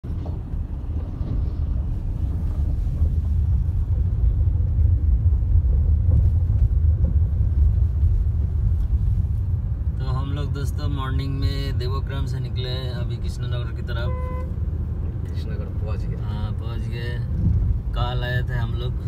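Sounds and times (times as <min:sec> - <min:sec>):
car rumble on rough road: 0:00.0 - 0:19.0.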